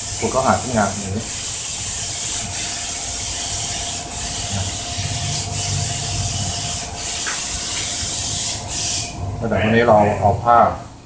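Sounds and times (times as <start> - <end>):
rag scrubbing a floor tile: 0.0 - 9.2.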